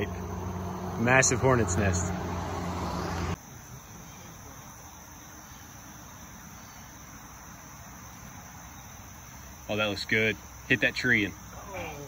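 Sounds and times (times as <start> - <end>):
faint outdoor background noise: 0.0 - 12.0
insects chirring: 0.0 - 12.0.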